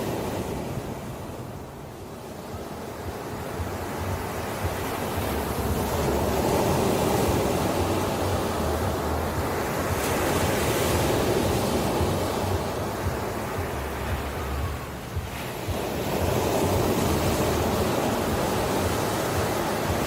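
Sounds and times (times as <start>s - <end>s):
ocean waves surf: 0.0s - 20.0s.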